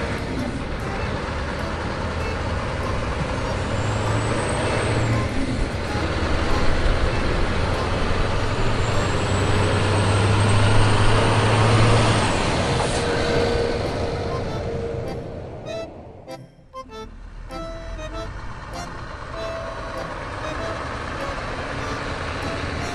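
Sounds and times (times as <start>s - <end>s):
truck engine humming: 0.0s - 22.9s.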